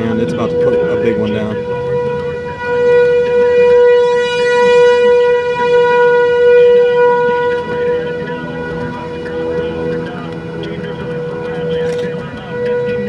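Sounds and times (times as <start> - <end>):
warning siren steady tone: 0.0 - 13.0.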